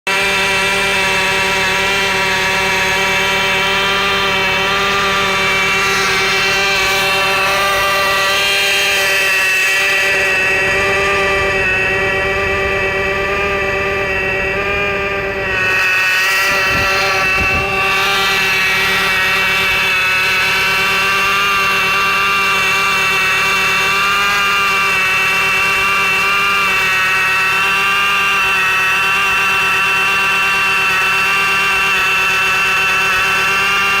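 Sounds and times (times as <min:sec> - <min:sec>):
car engine running: 0:00.1 - 0:34.0
steady whining tone: 0:00.1 - 0:34.0.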